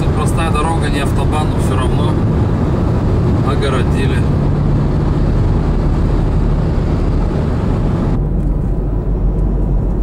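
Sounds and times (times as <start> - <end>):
car road noise: 0.0 - 10.0.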